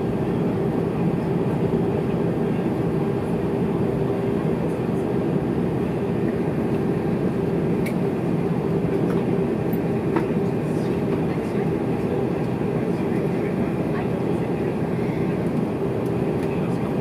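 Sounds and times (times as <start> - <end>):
airliner cabin engine hum: 0.0 - 17.0.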